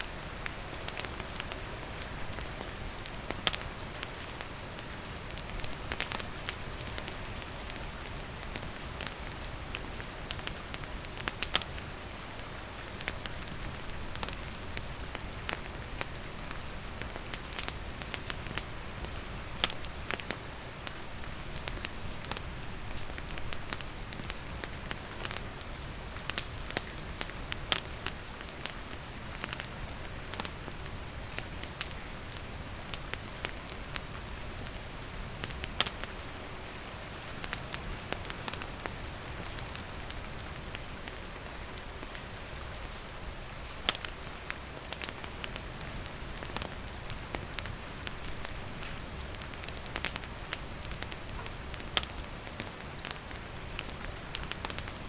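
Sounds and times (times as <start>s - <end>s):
steady rain falling: 0.0s - 55.0s
wood fire crackling: 0.0s - 55.0s.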